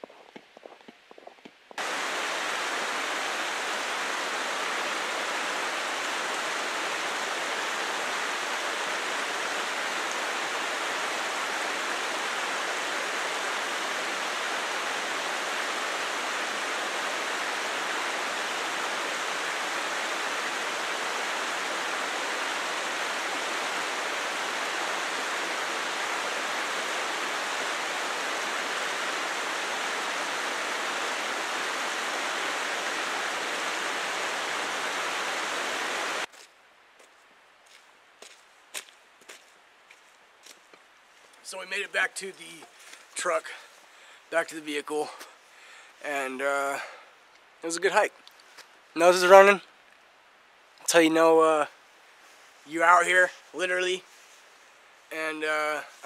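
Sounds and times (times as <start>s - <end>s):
creek rushing over rocks: 1.8s - 36.3s, 41.5s - 49.6s, 50.9s - 56.0s.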